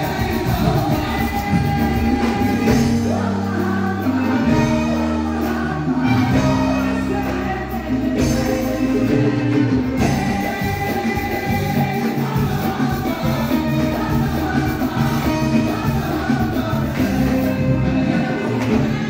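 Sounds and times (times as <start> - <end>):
electric guitar: 0.0 - 19.0
keyboard: 0.0 - 19.0
live band music: 0.0 - 19.0
woman singing: 0.0 - 19.0.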